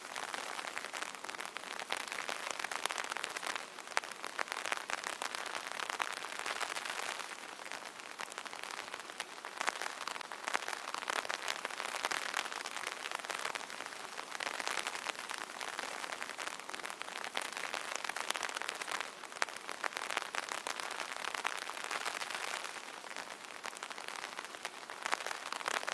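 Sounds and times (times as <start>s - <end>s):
rain pattering on umbrella: 0.0s - 25.9s.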